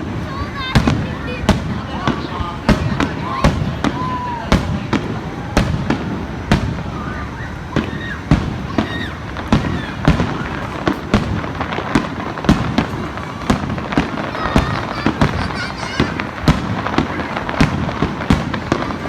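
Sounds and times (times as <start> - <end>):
fireworks sharp bangs: 0.0 - 19.0
rumble of firework bursts: 0.0 - 19.0.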